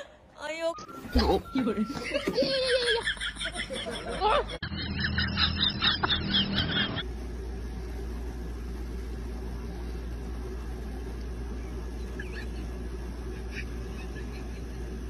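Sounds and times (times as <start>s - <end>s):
steady low hum: 1.6s - 15.0s.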